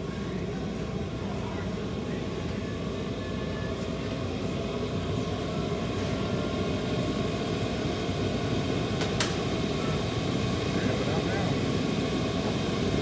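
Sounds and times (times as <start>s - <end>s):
heater fan and burner rushing: 0.0s - 13.0s.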